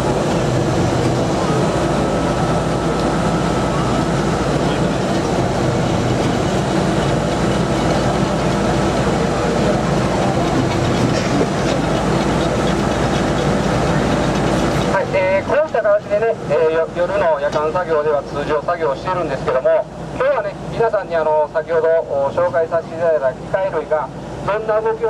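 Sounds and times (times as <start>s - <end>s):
machine engine drone: 0.0s - 25.0s.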